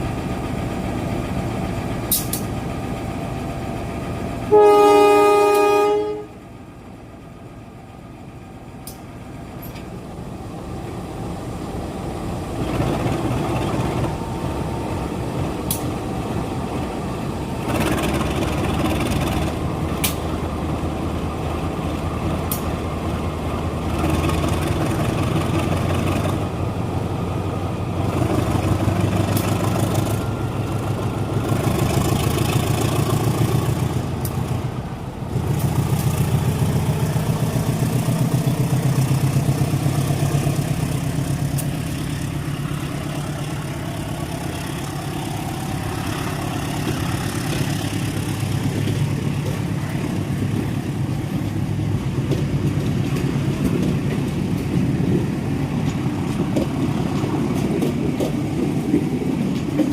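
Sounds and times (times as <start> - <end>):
diesel locomotive engine humming: 0.0 - 59.9.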